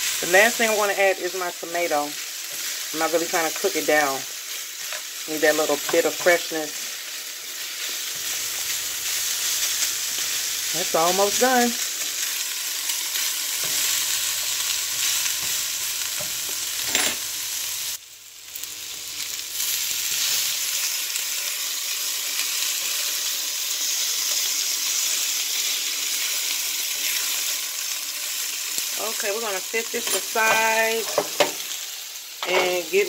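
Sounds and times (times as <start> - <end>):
food sizzling in a skillet: 0.0 - 33.0.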